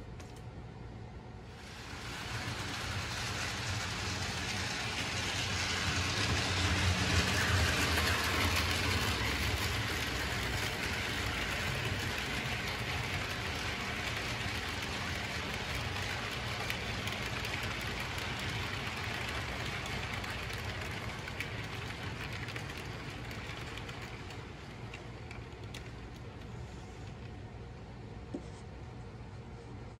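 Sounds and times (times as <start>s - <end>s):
model train wheels rumbling on rail: 1.4s - 27.6s.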